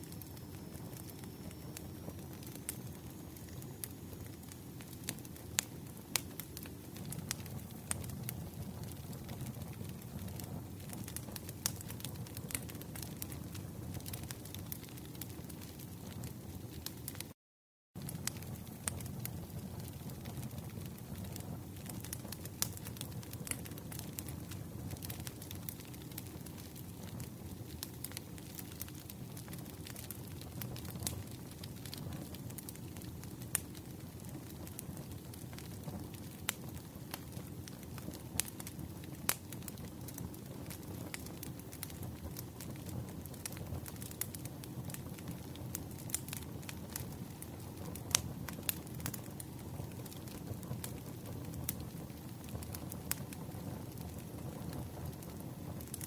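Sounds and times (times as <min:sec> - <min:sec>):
wood fire crackling: 0:00.0 - 0:17.4, 0:18.0 - 0:56.0.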